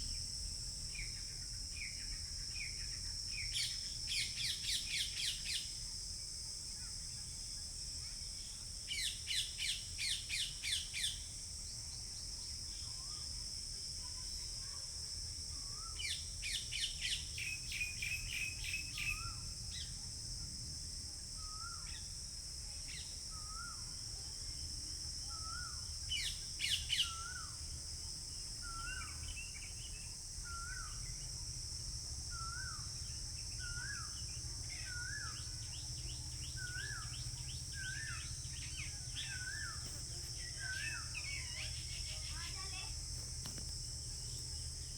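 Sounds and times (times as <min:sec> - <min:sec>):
high insect drone: 0:00.0 - 0:44.9.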